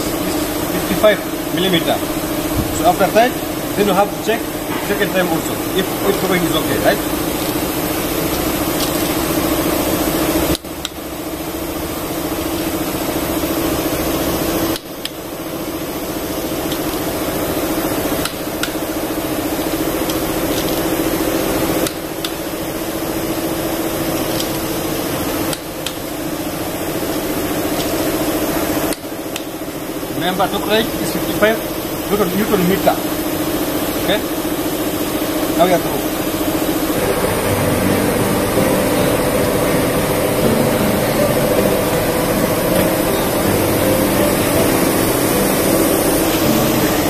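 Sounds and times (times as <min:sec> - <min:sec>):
machine drone with low hum: 0:00.0 - 0:47.0.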